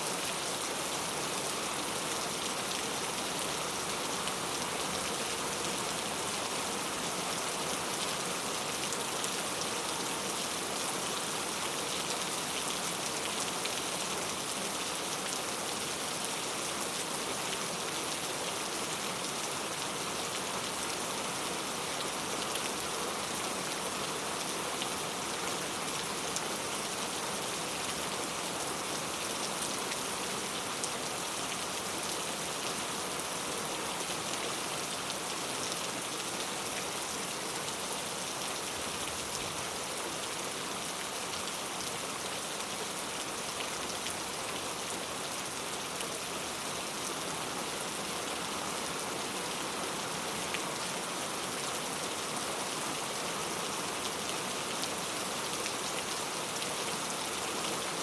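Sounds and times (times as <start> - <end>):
heavy rain on hard surfaces: 0.0 - 58.0.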